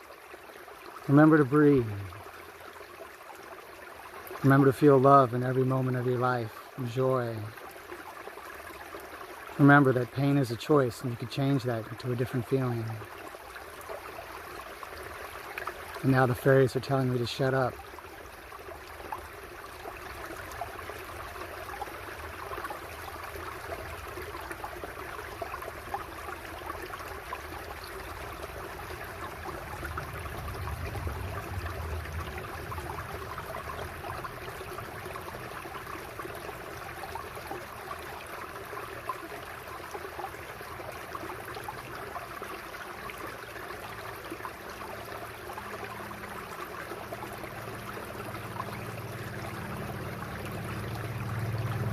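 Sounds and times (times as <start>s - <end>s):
river babbling over rocks: 0.0s - 51.9s.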